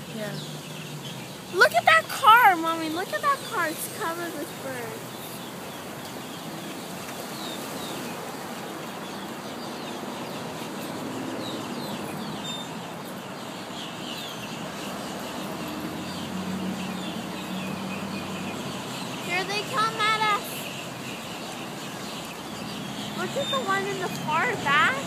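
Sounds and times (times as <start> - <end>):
flock of starlings calling: 0.0 - 25.0
road traffic: 0.0 - 25.0.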